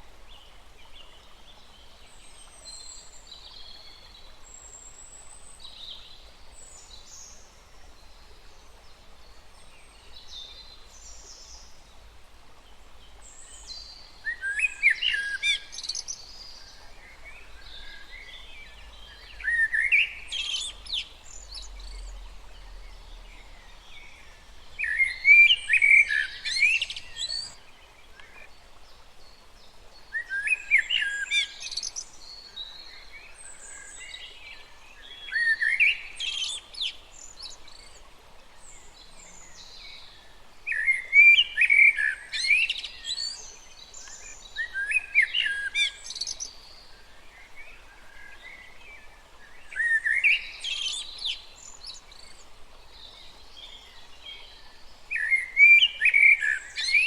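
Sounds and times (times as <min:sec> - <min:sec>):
small stream rushing: 0:00.0 - 0:57.0
songbird singing: 0:00.0 - 0:57.0.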